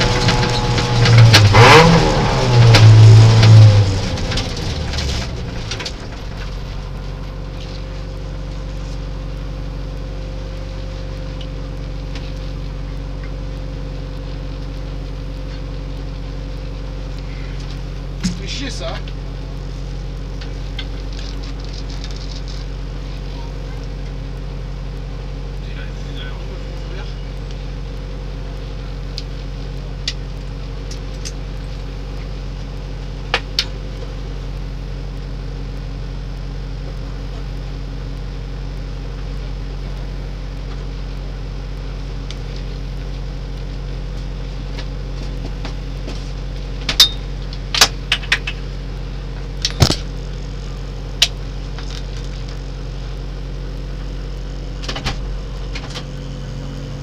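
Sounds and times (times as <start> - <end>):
low cabin hum: 0.0 - 57.0.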